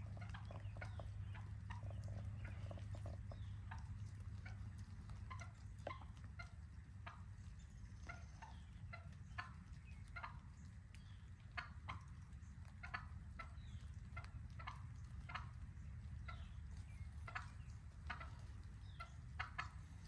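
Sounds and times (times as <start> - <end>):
low steady rumble: 0.0 - 20.0
turkey clucking: 0.0 - 20.0.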